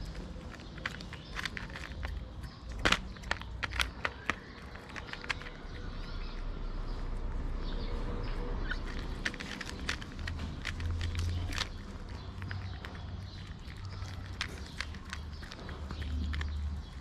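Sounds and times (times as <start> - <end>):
cat crunching dry kibble: 0.0 - 6.7, 8.6 - 17.0.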